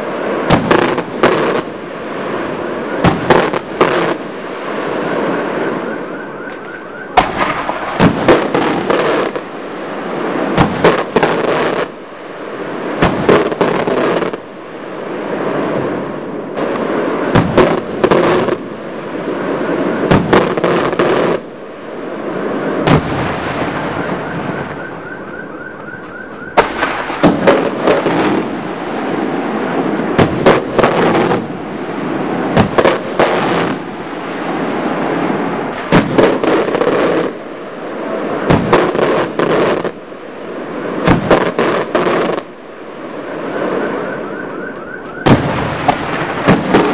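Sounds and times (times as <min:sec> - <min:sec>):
crackling and rumbling reports: 0:00.0 - 0:46.9
fireworks bangs: 0:00.0 - 0:46.9.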